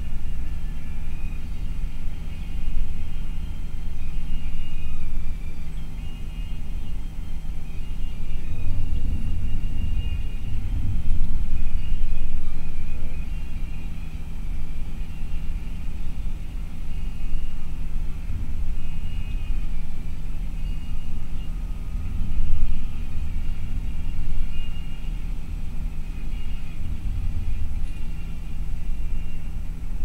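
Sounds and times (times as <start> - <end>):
bus engine and tyres rumbling: 0.0 - 30.0.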